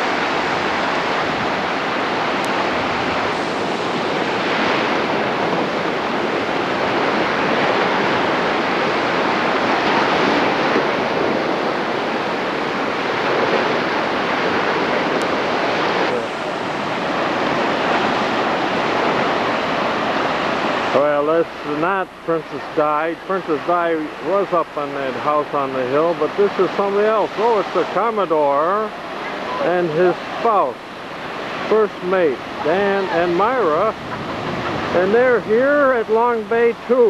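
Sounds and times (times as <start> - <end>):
ocean waves washing in: 0.0 - 37.0.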